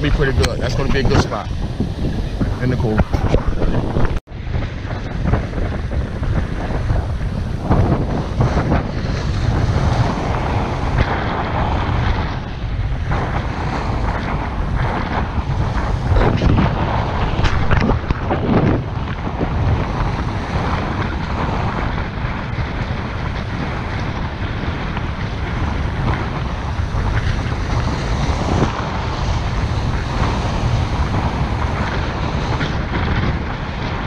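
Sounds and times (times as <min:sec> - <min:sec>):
choppy sea water: 0:00.0 - 0:34.0
wind buffeting microphone: 0:00.0 - 0:34.0.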